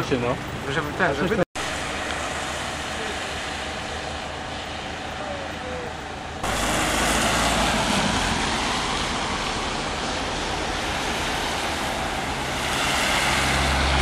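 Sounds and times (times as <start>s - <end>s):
tyres hissing on wet road: 0.0s - 14.0s
low engine rumble: 0.1s - 14.0s.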